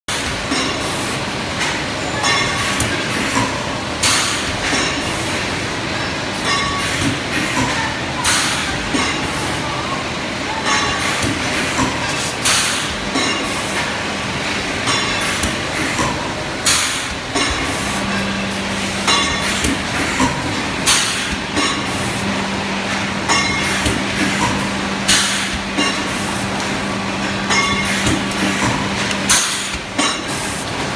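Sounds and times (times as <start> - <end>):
cup making machine running: 0.1 - 30.9.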